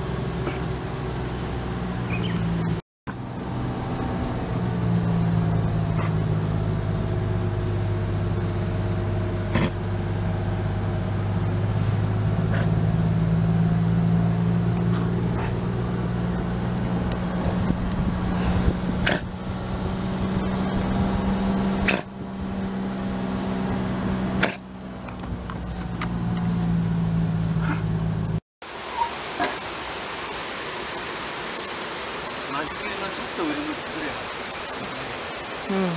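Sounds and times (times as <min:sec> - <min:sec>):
engine humming: 0:00.0 - 0:35.9.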